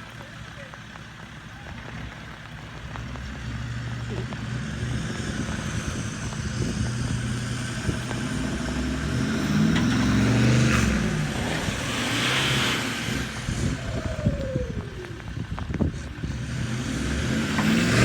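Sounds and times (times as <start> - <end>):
diesel engine revving: 0.0 - 18.0.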